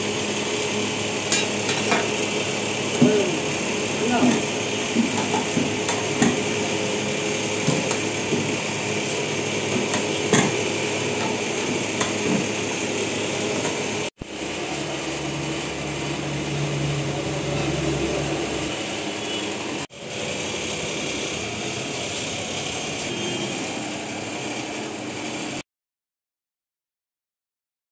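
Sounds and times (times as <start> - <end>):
pot boiling hard: 0.0 - 25.6.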